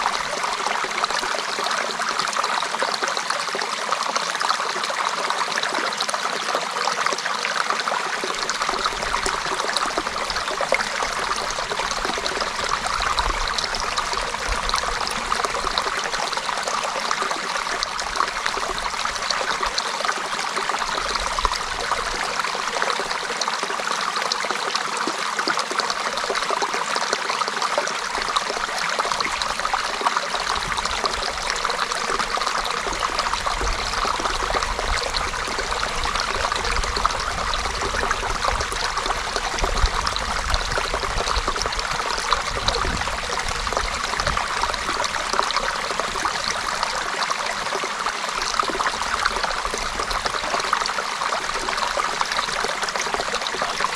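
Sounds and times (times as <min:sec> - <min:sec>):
creek water babbling over stones: 0:00.0 - 0:53.9.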